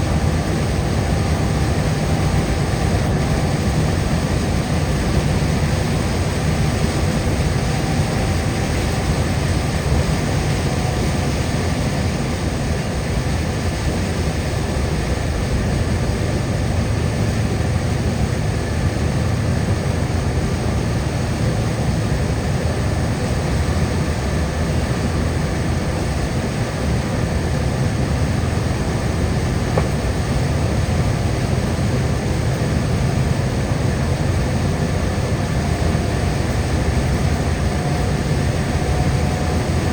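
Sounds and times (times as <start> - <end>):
car road noise on wet highway: 0.0 - 39.9.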